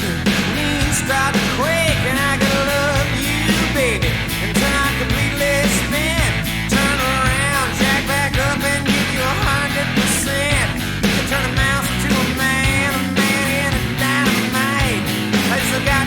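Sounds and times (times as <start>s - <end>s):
drums and bass: 0.0s - 16.0s
electric lead guitar: 0.0s - 16.0s.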